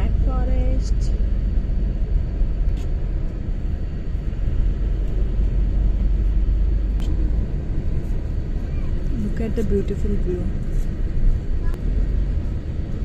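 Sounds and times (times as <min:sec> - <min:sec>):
moving coach engine rumble: 0:00.0 - 0:13.0.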